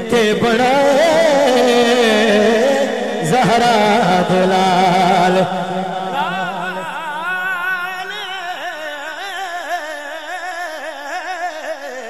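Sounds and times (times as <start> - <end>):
man singing ornamented melody: 0.0 - 12.0.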